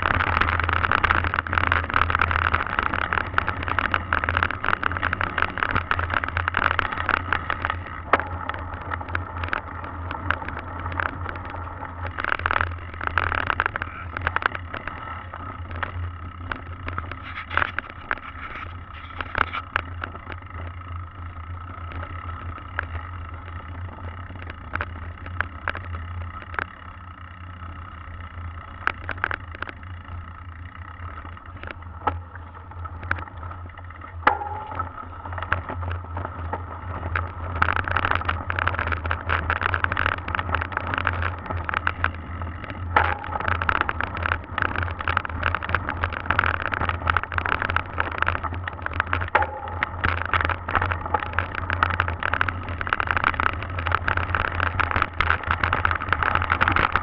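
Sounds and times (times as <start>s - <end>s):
bike rattling over bumps: 0.0s - 57.0s
bike tyres on mud and gravel: 0.0s - 57.0s
steady low rumble: 0.0s - 57.0s.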